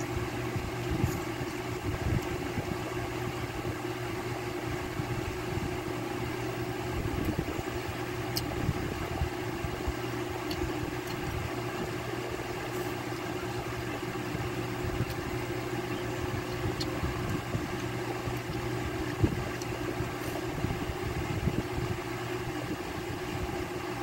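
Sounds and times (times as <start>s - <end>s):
fan motor hum: 0.0s - 24.0s.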